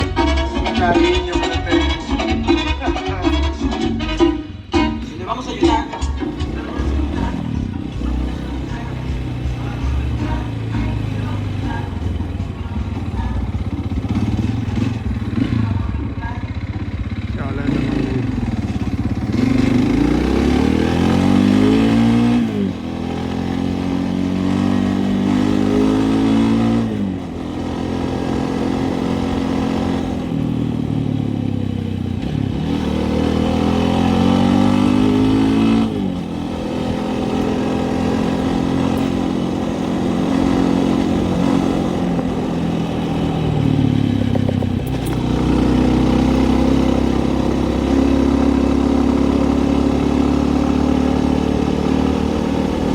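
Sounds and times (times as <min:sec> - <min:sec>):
vehicle engine revving hard: 0:00.0 - 0:12.5, 0:13.2 - 0:16.0, 0:17.4 - 0:52.9.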